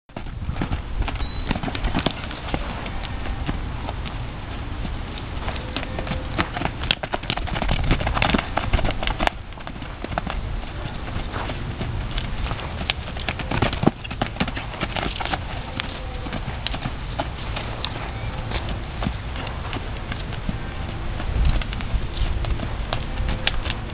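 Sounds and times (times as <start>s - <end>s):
hoofbeats on sandy dirt: 0.1s - 23.9s.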